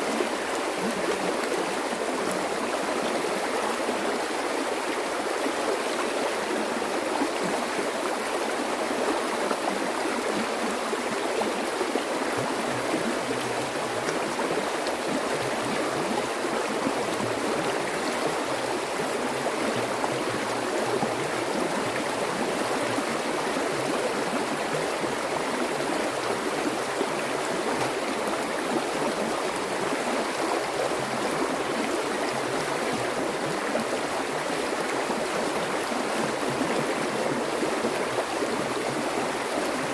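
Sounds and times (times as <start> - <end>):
water flowing in a stream: 0.0 - 39.9.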